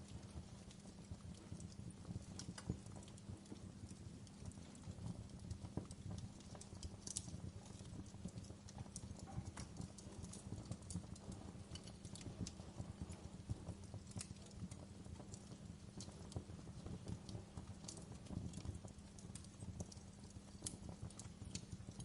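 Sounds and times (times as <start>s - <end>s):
low rumble of burning logs: 0.0s - 22.0s
wood fire crackling: 0.0s - 22.0s.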